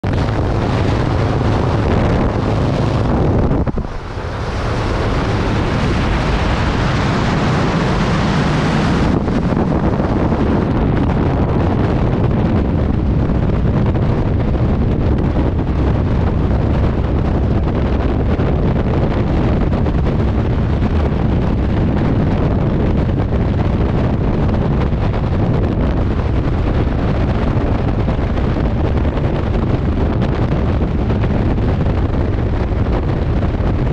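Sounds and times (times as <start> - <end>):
heavy wind on microphone: 0.0 - 33.9.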